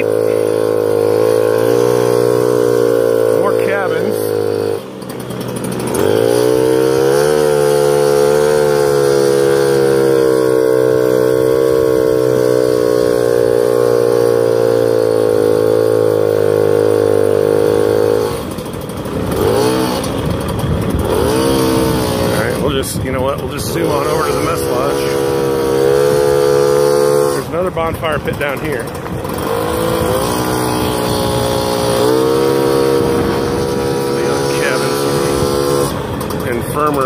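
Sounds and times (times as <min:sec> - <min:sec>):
moped engine running: 0:00.0 - 0:37.0.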